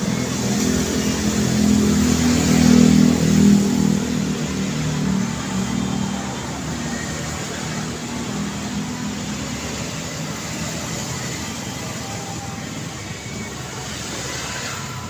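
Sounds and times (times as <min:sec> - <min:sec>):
road traffic noise: 0:00.0 - 0:15.0
vehicle engine nearby: 0:00.0 - 0:15.0.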